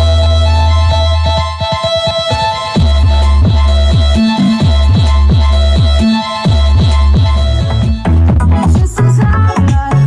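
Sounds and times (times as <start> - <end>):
loud electronic dance music: 0.0 - 10.0
deep kick drum: 0.1 - 10.0.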